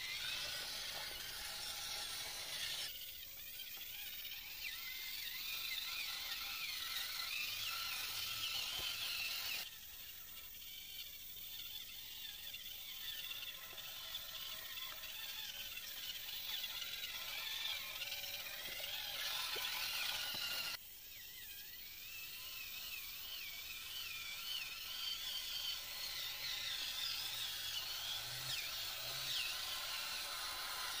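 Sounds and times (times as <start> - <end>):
electric motor and gear whine: 0.0 - 31.0.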